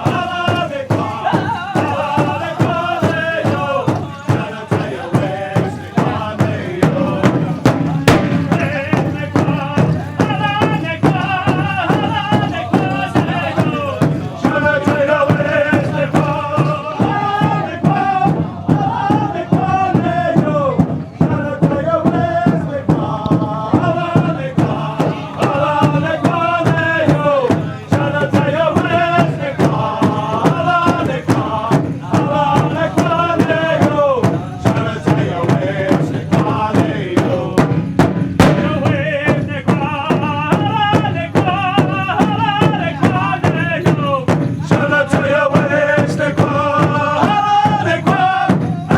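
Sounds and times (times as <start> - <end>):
group of voices chanting: 0.0 - 48.9
steady drumbeat: 0.0 - 48.9.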